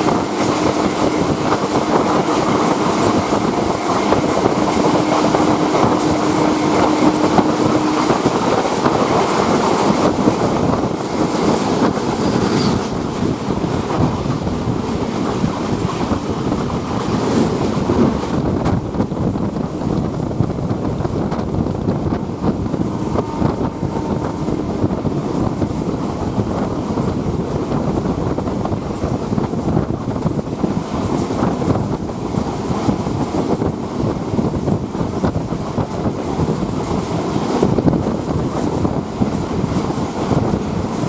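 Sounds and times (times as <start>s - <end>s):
train running rumble: 0.0s - 41.0s
wind buffeting microphone: 0.0s - 41.0s.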